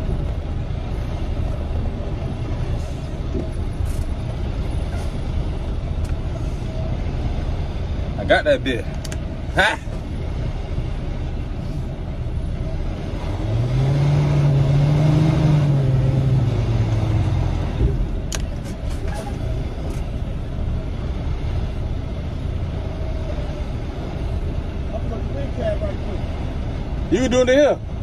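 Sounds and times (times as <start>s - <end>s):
diesel engine running and revving: 0.0s - 28.0s.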